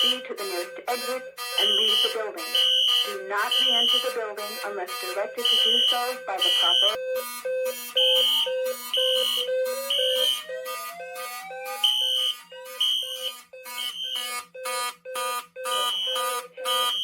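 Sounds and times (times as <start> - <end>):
fire alarm pulsing tones: 0.0 - 17.0.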